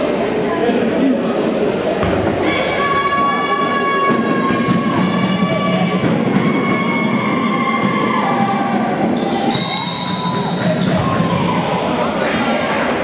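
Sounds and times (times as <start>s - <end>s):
crowd murmur: 0.0s - 13.0s.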